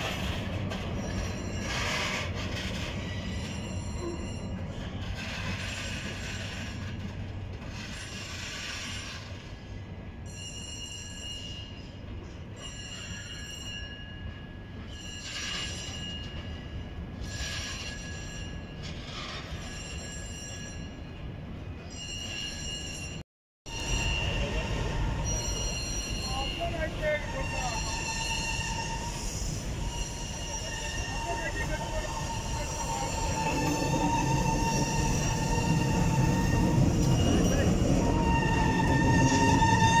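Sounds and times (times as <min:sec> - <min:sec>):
steel wheels squealing on rails: 0:00.0 - 0:40.0.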